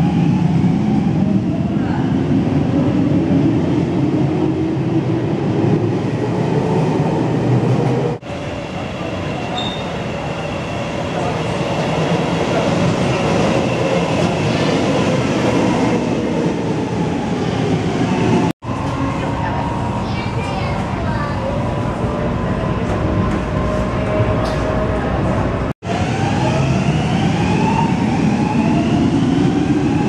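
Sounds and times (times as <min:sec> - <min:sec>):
train pulling in: 0:00.0 - 0:30.0
train rumbling: 0:00.0 - 0:30.0.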